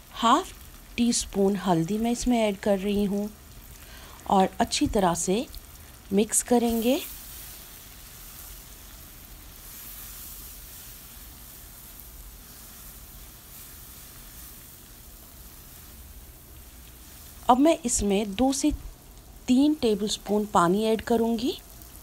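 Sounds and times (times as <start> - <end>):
spinach frying in oil: 0.0 - 22.0.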